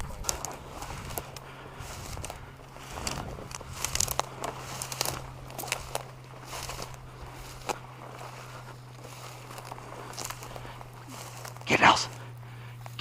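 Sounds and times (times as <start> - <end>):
dry vegetation rustling and crackling: 0.0 - 13.0.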